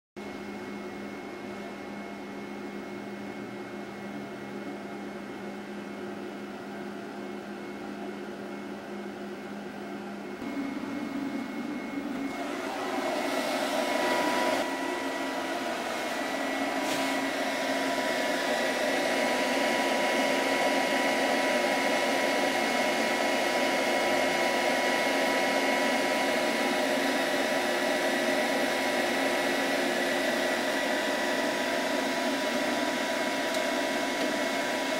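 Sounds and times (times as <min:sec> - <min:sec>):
computer cooling fans whirring: 0:00.2 - 0:34.9.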